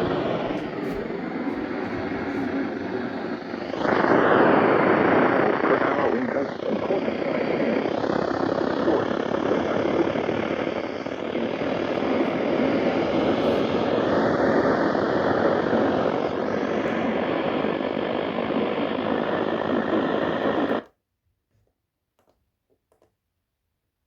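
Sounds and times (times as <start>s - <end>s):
radio static hiss: 0.0s - 20.9s.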